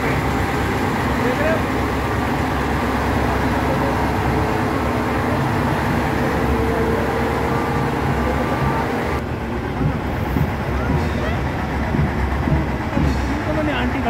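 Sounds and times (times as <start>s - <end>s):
truck engine rumble: 0.0s - 14.0s.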